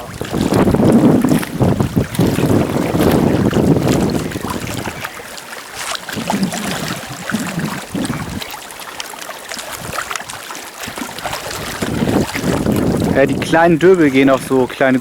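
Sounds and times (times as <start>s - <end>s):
wind gusts on microphone: 0.0s - 8.6s, 9.7s - 10.1s, 10.8s - 15.0s
water lapping and splashing: 0.0s - 15.0s.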